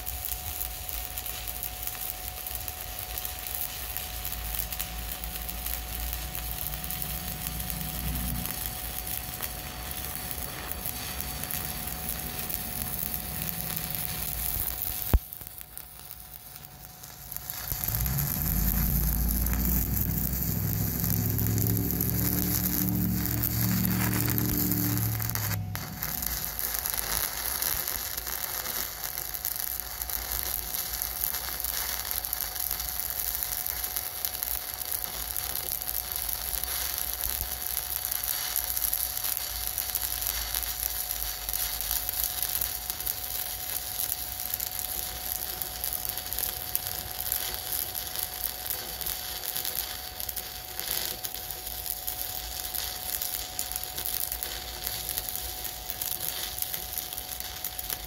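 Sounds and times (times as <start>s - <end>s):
welding arc crackling sizzle: 0.0s - 58.0s.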